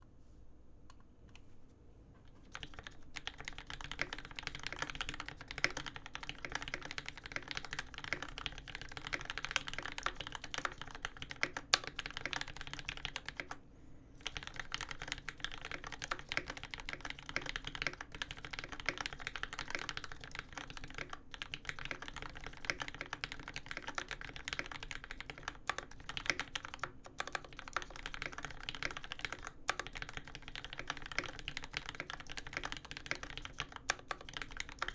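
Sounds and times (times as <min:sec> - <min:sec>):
mechanical keyboard typing: 0:02.3 - 0:13.6, 0:14.2 - 0:34.9.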